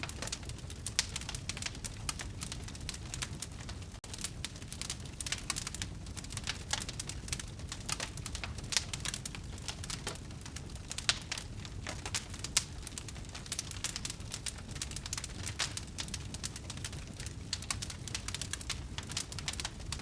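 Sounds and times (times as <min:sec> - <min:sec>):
burning logs popping: 0:00.0 - 0:20.0
low rumble of flames: 0:00.0 - 0:20.0
wood fire crackling: 0:00.0 - 0:20.0.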